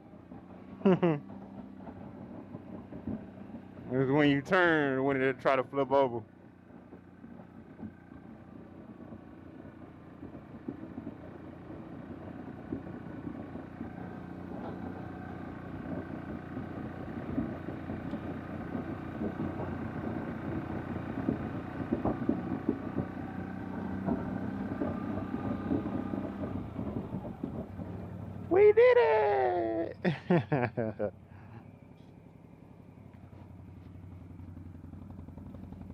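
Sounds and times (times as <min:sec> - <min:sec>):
atv engine running: 0:00.0 - 0:35.9.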